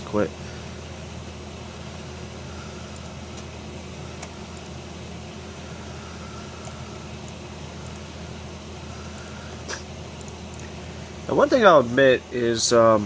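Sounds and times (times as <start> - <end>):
computer cooling fans whirring: 0.0 - 13.0.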